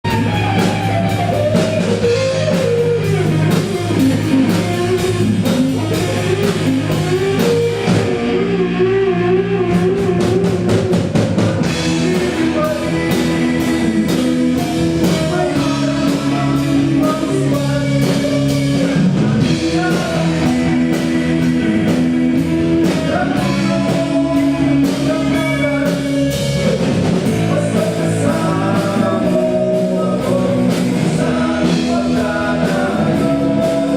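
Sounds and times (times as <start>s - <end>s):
drum kit beat: 0.0s - 33.9s
guitar: 0.0s - 33.9s
rock band playing: 0.0s - 33.9s.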